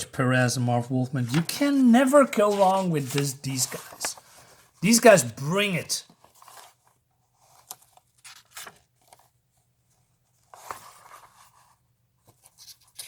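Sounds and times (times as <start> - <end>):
paper rustling: 1.2 - 13.0.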